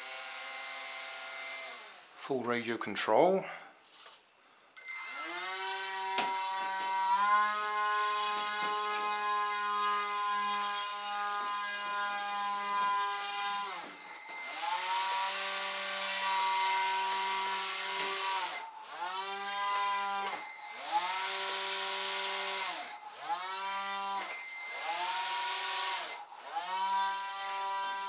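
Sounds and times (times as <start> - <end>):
model boat motor buzzing whine: 5.0 - 28.0.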